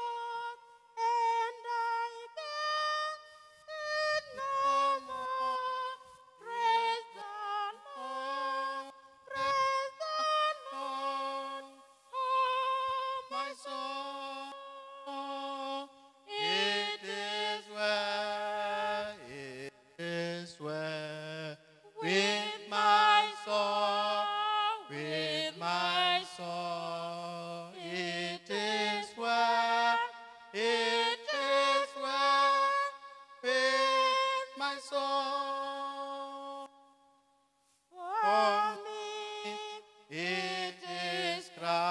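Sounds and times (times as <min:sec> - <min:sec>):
person singing slow solemn notes: 0:00.0 - 0:36.7.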